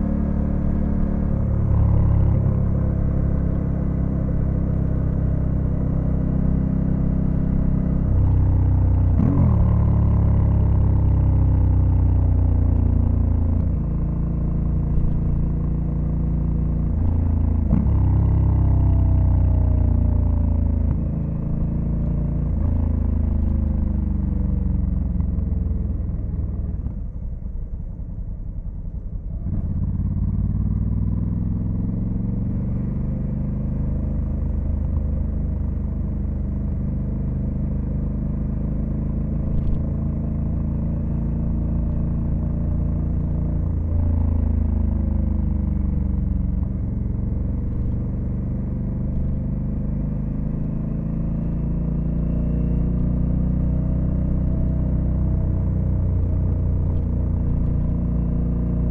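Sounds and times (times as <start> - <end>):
motorcycle engine revving: 0.0 - 27.0, 29.3 - 58.9.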